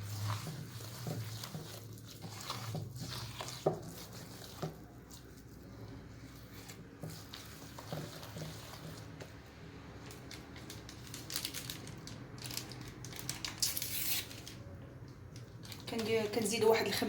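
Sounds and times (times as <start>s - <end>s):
cake batter being stirred: 0.0s - 14.3s.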